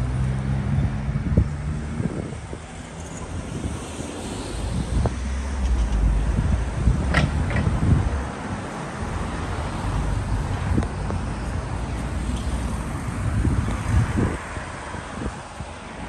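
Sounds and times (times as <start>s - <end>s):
road traffic: 0.0s - 16.0s
wind buffeting microphone: 0.8s - 16.0s.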